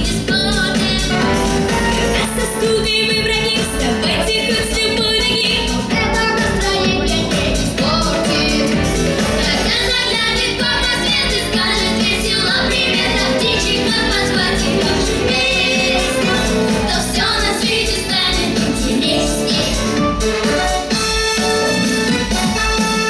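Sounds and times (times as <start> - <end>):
vocal trio singing pop song: 0.0 - 20.1
instrumental backing track with beat: 0.0 - 23.0.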